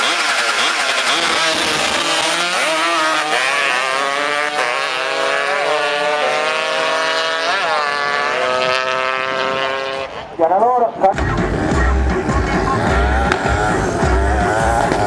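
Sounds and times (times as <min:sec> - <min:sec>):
motorcycle engines revving high: 0:00.0 - 0:15.0.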